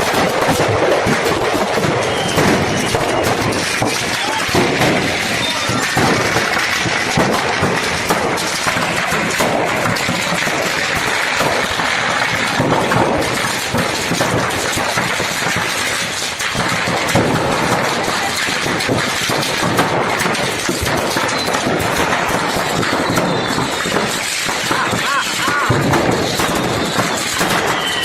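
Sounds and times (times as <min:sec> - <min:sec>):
fire burning: 0:00.0 - 0:28.0
firecrackers cracking and popping: 0:00.0 - 0:28.0.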